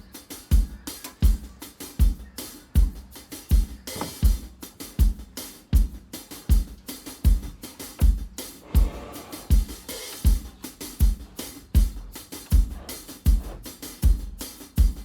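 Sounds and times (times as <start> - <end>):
drum-kit beat: 0.0 - 15.0.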